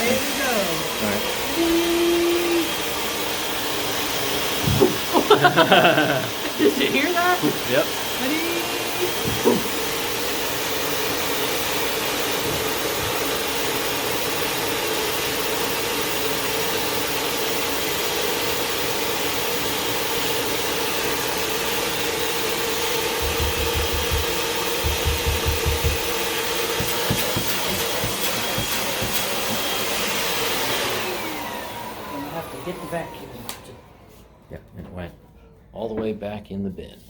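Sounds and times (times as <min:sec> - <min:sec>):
vacuum cleaner running: 0:00.0 - 0:34.4.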